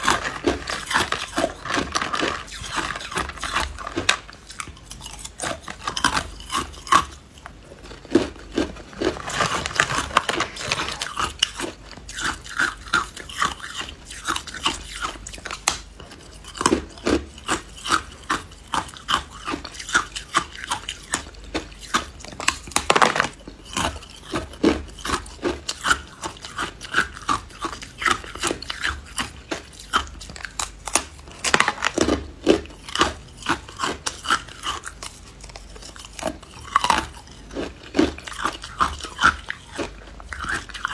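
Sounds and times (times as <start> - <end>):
ice being chewed and crunched: 0.0 - 40.9.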